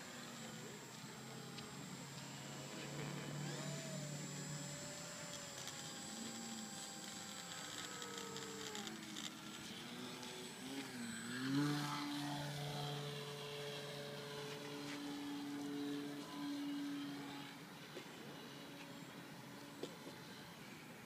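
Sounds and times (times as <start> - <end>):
model aircraft motor and propeller: 0.0 - 21.0.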